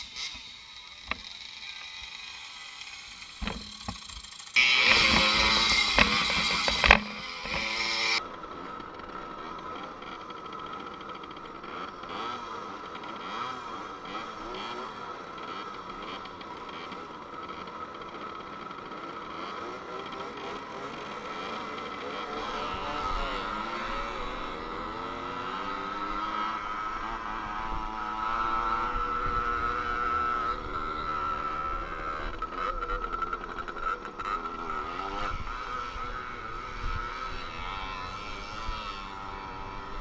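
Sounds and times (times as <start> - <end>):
moped engine running: 0.0 - 40.0.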